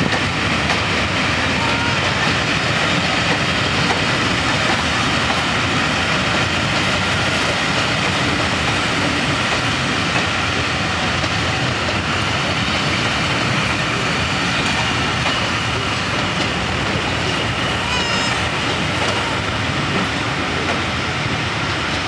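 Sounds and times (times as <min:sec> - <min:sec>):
train coaches rolling on rails: 0:00.0 - 0:22.0.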